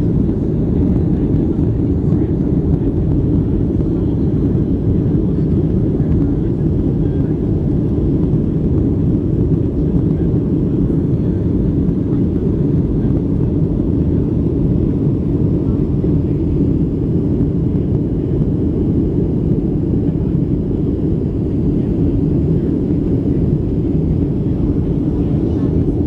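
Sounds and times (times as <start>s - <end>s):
airplane cabin engine noise: 0.0s - 26.0s.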